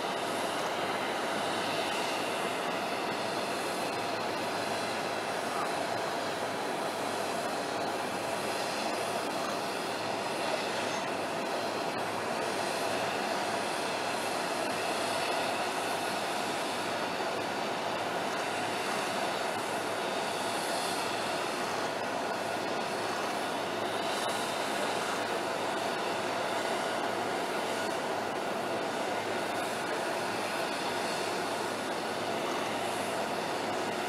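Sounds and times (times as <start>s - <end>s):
faint constant whine: 0.0s - 34.0s.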